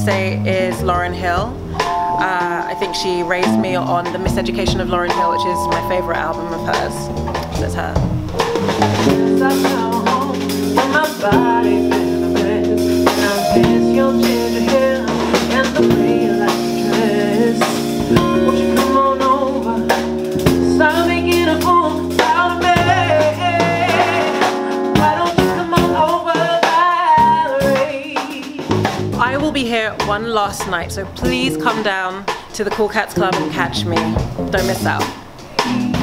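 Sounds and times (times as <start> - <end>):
bass guitar: 0.0 - 26.2, 27.1 - 36.0
drum kit: 0.0 - 36.0
held keyboard chords: 0.5 - 32.2
woman singing: 2.1 - 8.0, 8.8 - 35.0.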